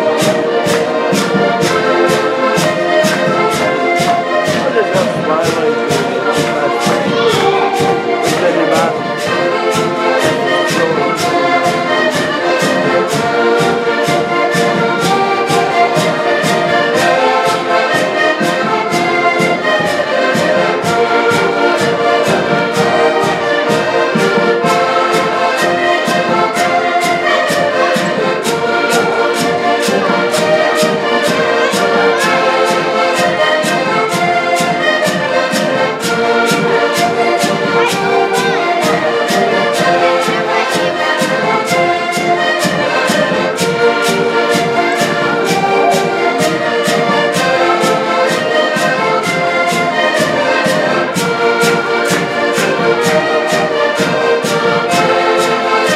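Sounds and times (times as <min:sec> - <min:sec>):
accordion ensemble playing: 0:00.0 - 0:55.9.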